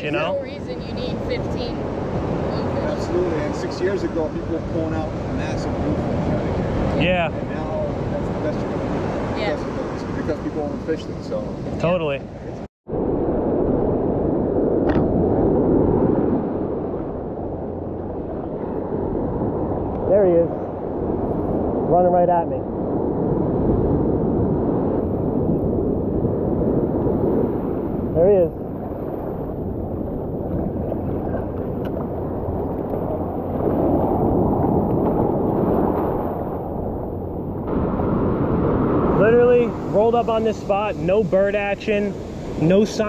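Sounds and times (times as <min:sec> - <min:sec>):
surf washing in: 0:00.0 - 0:43.0
wind on microphone: 0:00.0 - 0:43.0.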